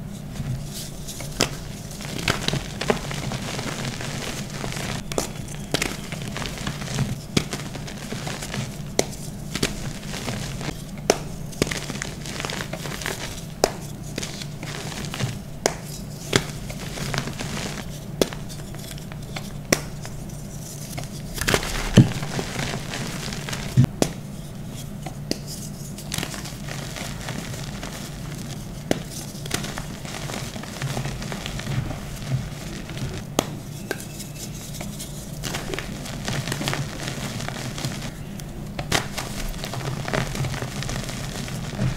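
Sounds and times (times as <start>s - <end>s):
low steady hum: 0.0s - 41.9s
hands crumbling chalk: 0.2s - 41.9s.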